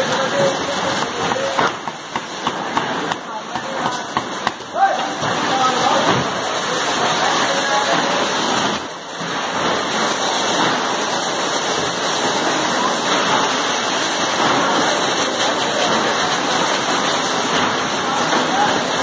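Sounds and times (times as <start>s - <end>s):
filling machine rushing: 0.0s - 19.0s.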